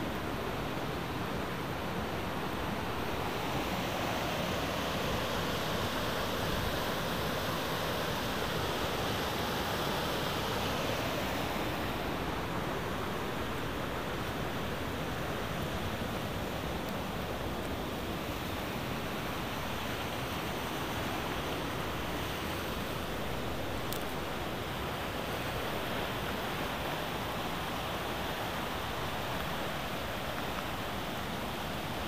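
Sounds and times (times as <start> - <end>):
river rushing over boulders: 0.0 - 32.0.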